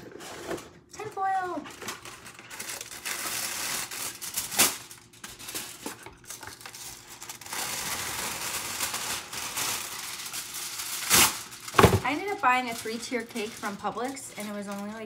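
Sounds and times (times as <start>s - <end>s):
aluminium foil crinkling: 1.0s - 15.0s
foil tearing: 1.0s - 15.0s.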